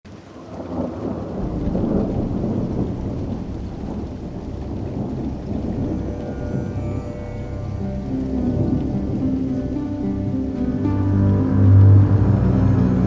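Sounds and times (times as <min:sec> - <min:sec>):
steady rain: 0:00.0 - 0:13.0
rolling thunder: 0:00.1 - 0:13.0.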